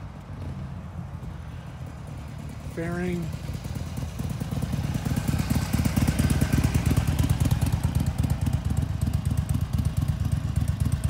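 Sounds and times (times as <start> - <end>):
motorcycle engine idling: 0.4 - 11.0.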